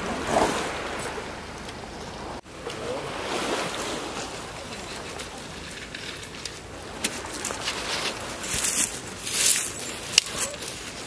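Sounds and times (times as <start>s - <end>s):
sea waves washing on shore: 0.0s - 11.0s.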